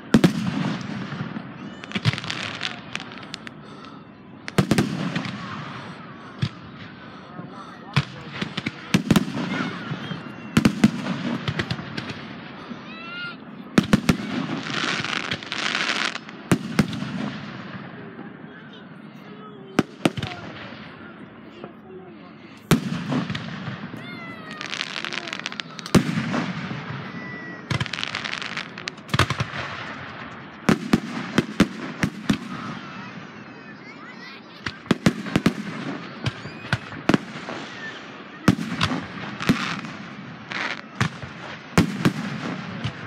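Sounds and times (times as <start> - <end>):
firework crackling: 0.0 - 43.0.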